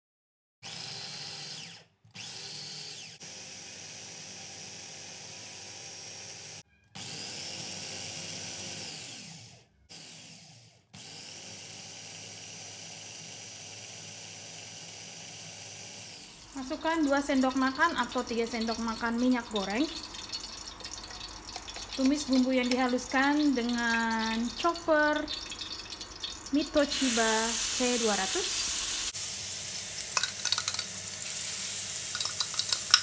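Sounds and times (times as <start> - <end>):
electric food chopper whining: 0.6 - 19.8, 21.6 - 29.4.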